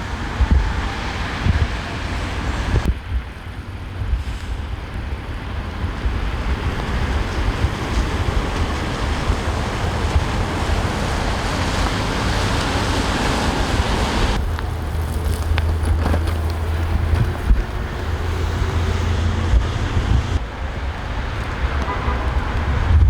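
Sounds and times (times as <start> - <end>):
steady traffic: 0.0 - 23.0
wind buffeting microphone: 0.0 - 23.0.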